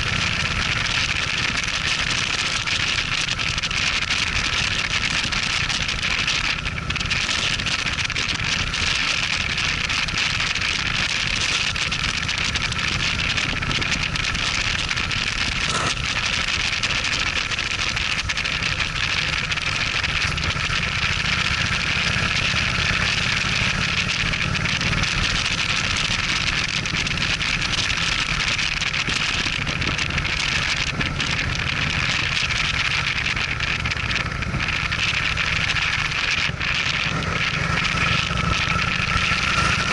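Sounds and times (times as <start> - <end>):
motorcycle engine rumble: 0.0 - 39.9
wind rushing over microphone: 0.0 - 39.9.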